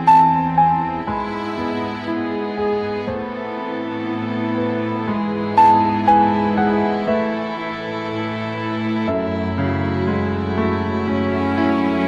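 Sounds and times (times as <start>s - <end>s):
slow sad background music: 0.0s - 12.0s.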